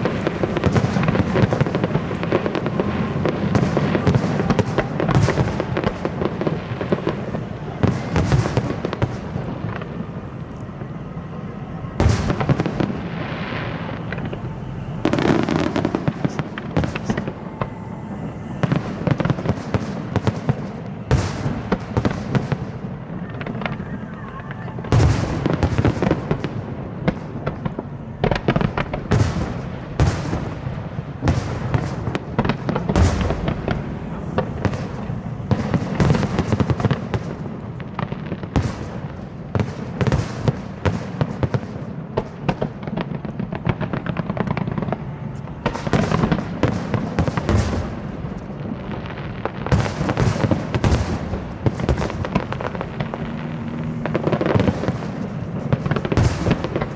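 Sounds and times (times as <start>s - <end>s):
echoing rumble of reports: 0.0s - 40.0s, 41.9s - 56.9s
fireworks bangs and crackles: 0.0s - 56.9s.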